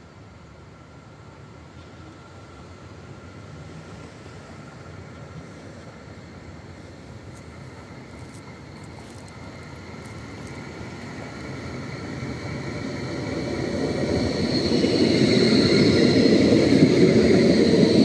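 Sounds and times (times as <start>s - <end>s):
steady high whine: 0.0s - 18.0s
tram rolling rumble: 0.0s - 18.0s.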